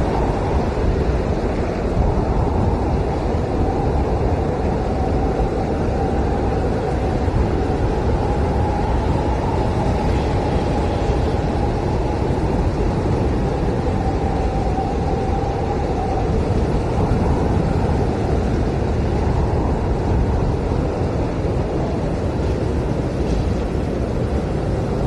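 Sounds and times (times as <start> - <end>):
blizzard wind roaring: 0.0 - 25.0
faint wavering wind howl: 0.0 - 25.0.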